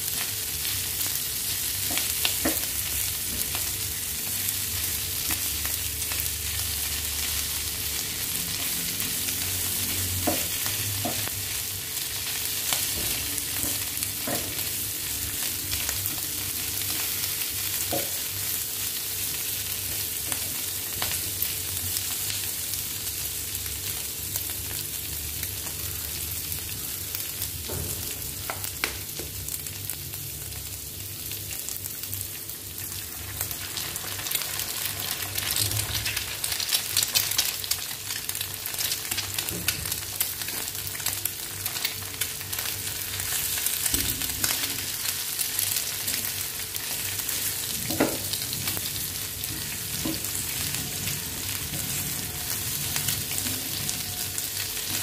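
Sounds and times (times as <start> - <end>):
meat sizzling in a pan: 0.0 - 55.0.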